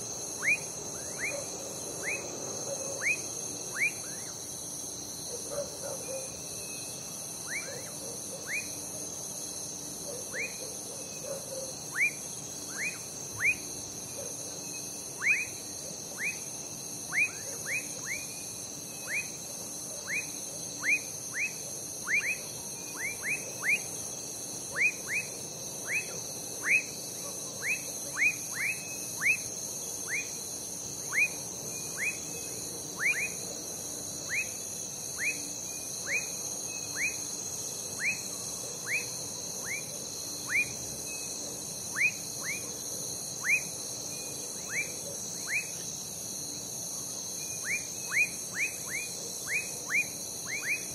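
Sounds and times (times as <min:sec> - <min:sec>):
frogs whistling calls: 0:00.0 - 0:04.4, 0:05.3 - 0:08.8, 0:10.2 - 0:33.5, 0:34.2 - 0:42.8, 0:43.4 - 0:45.9, 0:47.4 - 0:50.9
crickets and insects trilling: 0:00.0 - 0:50.9.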